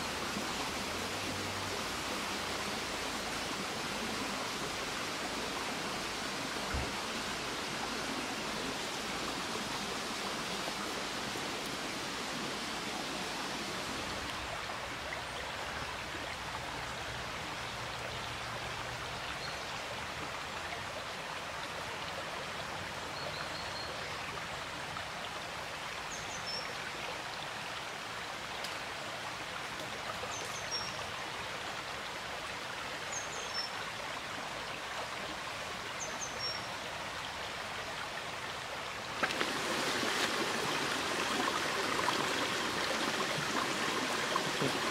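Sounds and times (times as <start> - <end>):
stream running over stones: 0.0 - 44.9.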